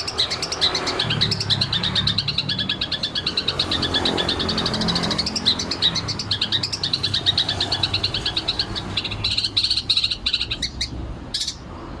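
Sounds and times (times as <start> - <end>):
shrike chattering song: 0.0 - 11.8.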